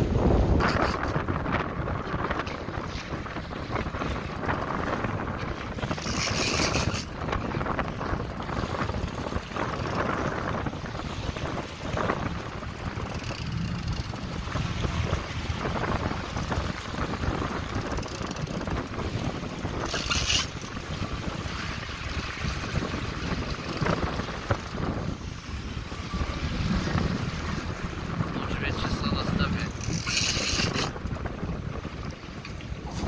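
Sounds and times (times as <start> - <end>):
boat engine rumble: 0.0 - 33.0
water washing along hull: 0.0 - 33.0
wind buffeting microphone: 0.0 - 33.0.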